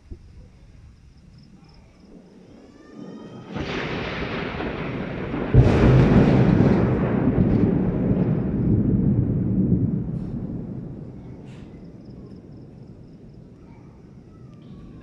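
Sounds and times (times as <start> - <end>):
thunder rumbling and cracking: 0.0 - 15.0.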